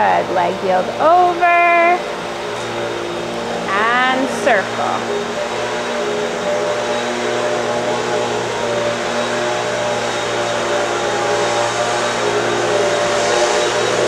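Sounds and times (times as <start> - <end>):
mechanical whirring with low hum: 0.0 - 14.0.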